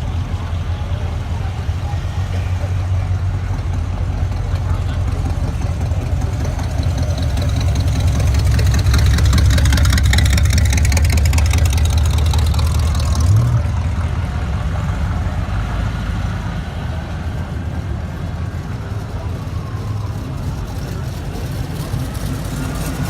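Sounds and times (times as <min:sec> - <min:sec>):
car engine and exhaust rumbling: 0:00.0 - 0:23.0.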